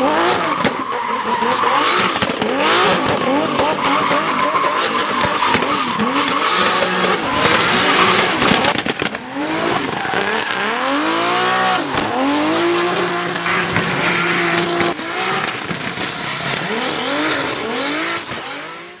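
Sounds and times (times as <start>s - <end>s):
race car engine revving: 0.0s - 19.0s
tyre squeals: 0.2s - 8.7s, 9.7s - 18.6s.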